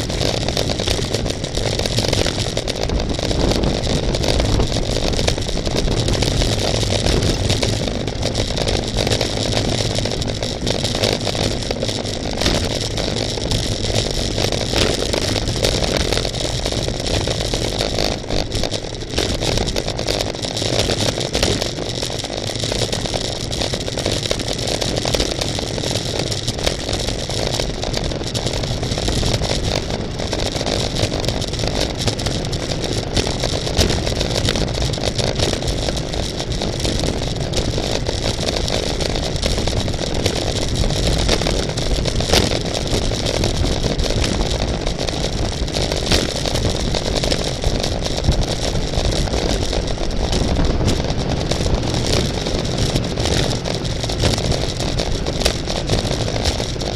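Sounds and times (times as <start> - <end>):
bicycle tyres and drivetrain hiss: 0.0 - 56.9
wind rush: 0.0 - 56.9.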